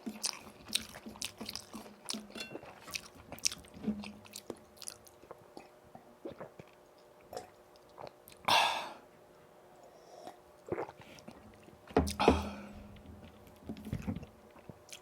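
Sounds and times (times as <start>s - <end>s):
close chewing with crunches: 0.0s - 8.5s, 10.3s - 15.0s.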